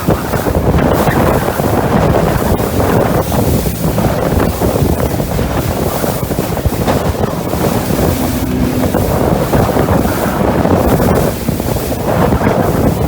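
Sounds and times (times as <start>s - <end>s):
steady rush of water: 0.0s - 13.0s
wind buffeting microphone: 0.0s - 13.0s.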